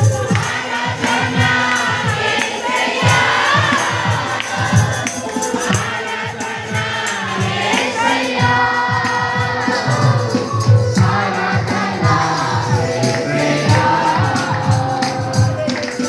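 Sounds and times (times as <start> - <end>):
congregation singing together: 0.0 - 16.0
drums beating: 0.0 - 16.0
jingling hand percussion: 0.0 - 16.0.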